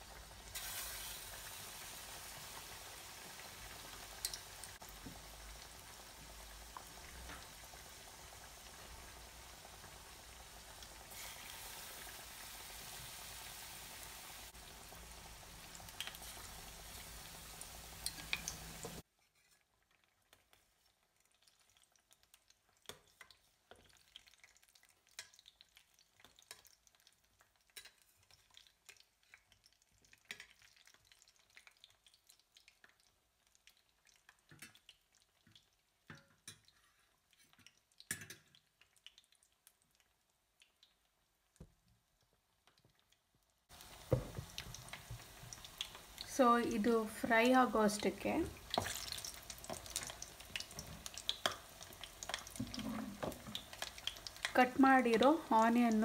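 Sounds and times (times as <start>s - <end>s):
crackles and pops of frying oil: 0.0s - 56.0s
oil sizzling while deep-frying: 0.0s - 56.0s.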